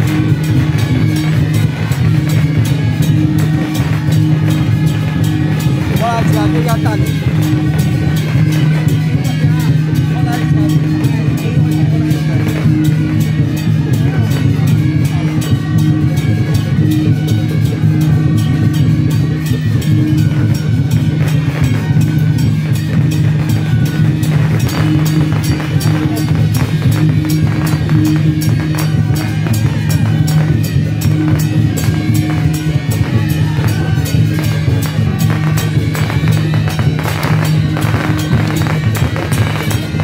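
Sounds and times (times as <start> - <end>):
drums and percussion: 0.0 - 40.0
steady low drone: 0.0 - 40.0.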